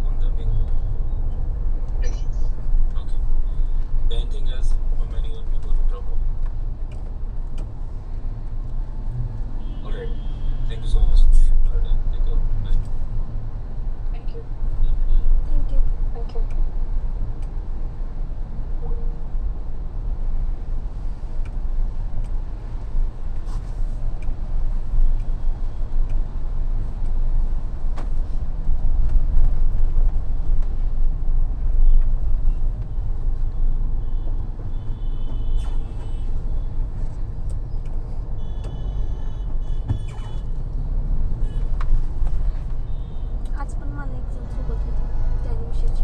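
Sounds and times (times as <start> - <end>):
engine and tyres on wet road: 0.0 - 46.0.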